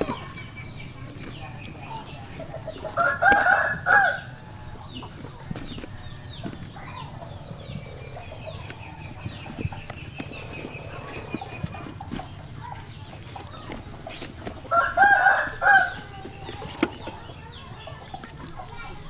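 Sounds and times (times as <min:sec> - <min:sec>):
chicken calling: 0:00.0 - 0:19.0.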